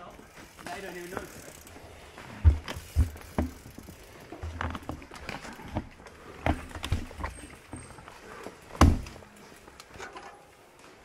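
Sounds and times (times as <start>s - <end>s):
bike rattling over bumps: 0.0s - 10.6s.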